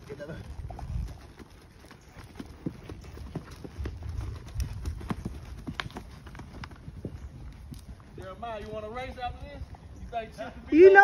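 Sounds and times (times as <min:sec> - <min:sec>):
horse hoofbeats on dirt: 0:00.0 - 0:11.0.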